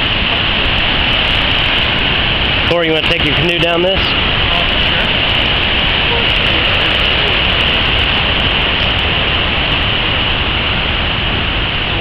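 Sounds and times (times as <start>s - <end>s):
whitewater rapids roaring: 0.0s - 12.0s.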